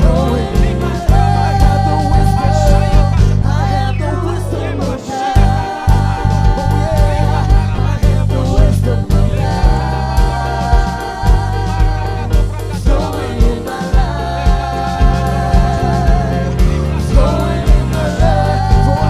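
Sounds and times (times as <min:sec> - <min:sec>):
gospel music bass and beat: 0:00.0 - 0:19.0
person singing long notes with vibrato: 0:00.0 - 0:19.0.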